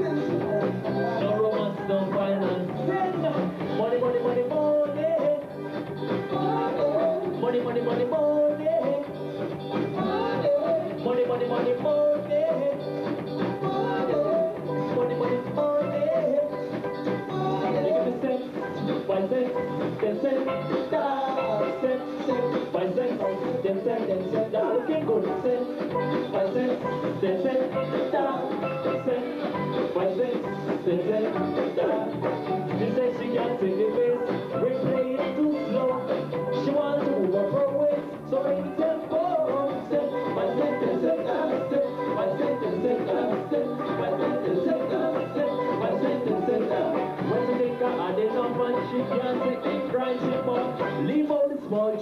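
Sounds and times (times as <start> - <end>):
drum kit beat: 0.0 - 51.3
live band playing dance music: 0.0 - 52.0.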